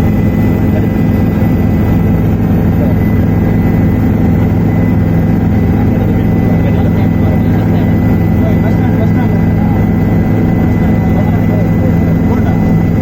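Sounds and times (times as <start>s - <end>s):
helicopter rotor drone: 0.0s - 13.0s
turbine high whine: 0.0s - 13.0s.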